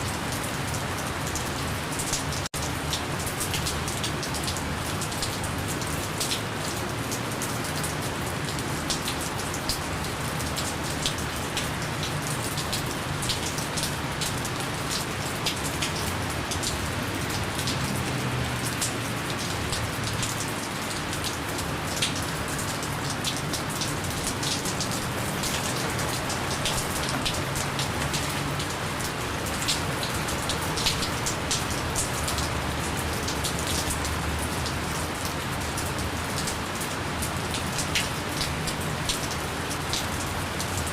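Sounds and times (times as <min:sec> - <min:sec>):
gentle rain falling: 0:00.0 - 0:40.9
raindrops ticking on a surface: 0:00.0 - 0:40.9.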